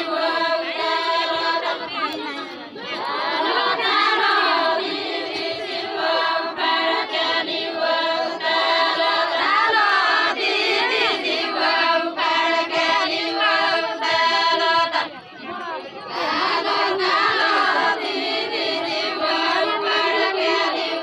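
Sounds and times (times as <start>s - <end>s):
women singing in unison: 0.0s - 21.0s.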